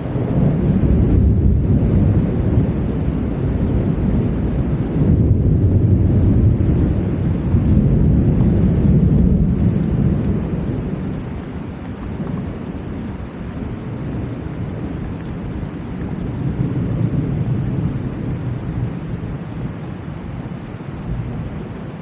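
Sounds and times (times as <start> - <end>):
rain falling: 0.0 - 22.0
thunder rumbling: 0.0 - 22.0.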